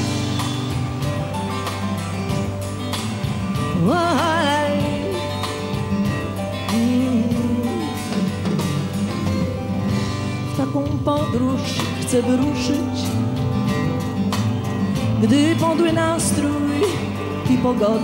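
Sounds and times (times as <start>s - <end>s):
acoustic guitar strumming: 0.0s - 18.0s
live folk-pop band playing: 0.0s - 18.0s.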